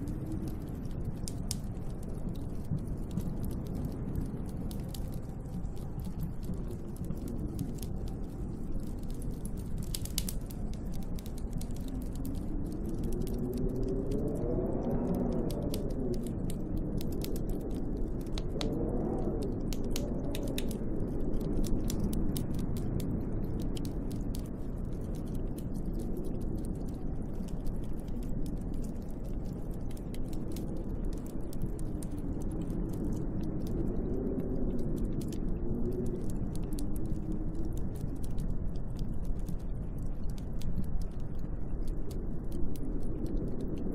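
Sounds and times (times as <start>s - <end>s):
wind howling: 0.0s - 43.9s.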